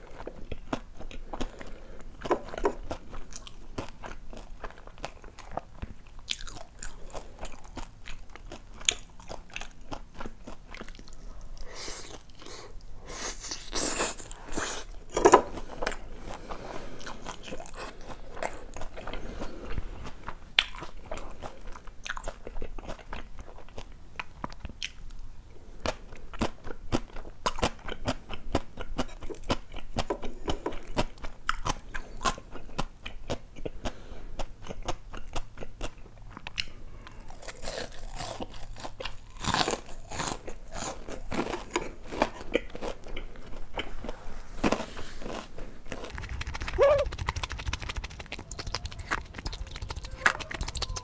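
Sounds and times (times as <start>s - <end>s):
crunchy chewing of fried food: 0.0s - 51.0s.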